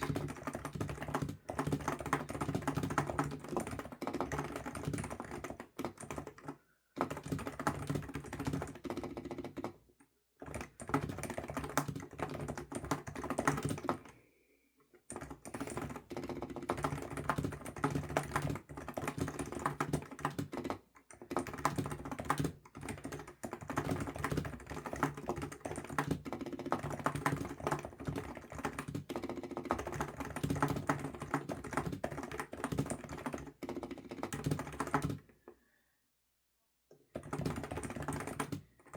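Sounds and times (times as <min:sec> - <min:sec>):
fast typing on keyboard: 0:00.0 - 0:14.3, 0:15.1 - 0:35.3, 0:37.1 - 0:38.9.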